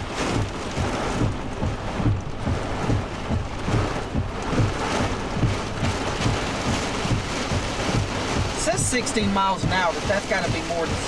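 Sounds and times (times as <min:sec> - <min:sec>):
heavy rain pelting a truck: 0:00.0 - 0:11.0
wind gusts buffeting: 0:00.0 - 0:11.0.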